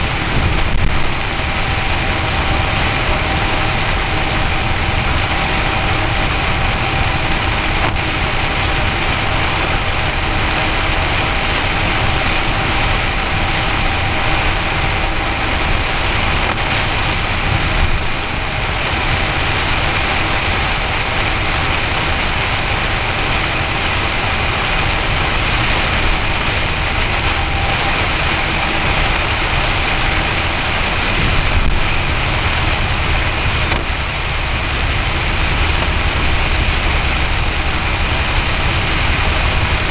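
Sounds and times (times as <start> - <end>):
engine rumble inside vehicle: 0.0 - 39.9
tyres hissing on wet road: 0.0 - 39.9.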